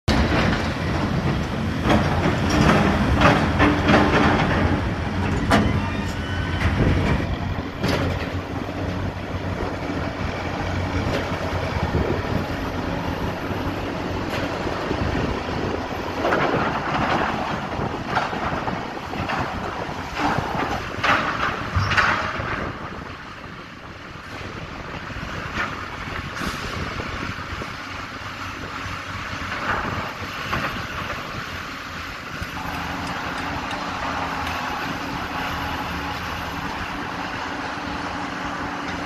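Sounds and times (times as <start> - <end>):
diesel engine running: 0.1 - 39.0.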